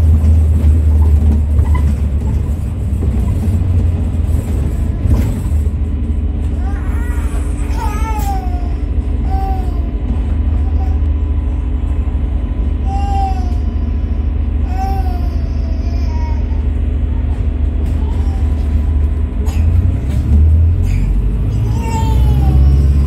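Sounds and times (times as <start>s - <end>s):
bus drivetrain rumble: 0.0s - 23.0s
constant hum: 0.0s - 23.0s.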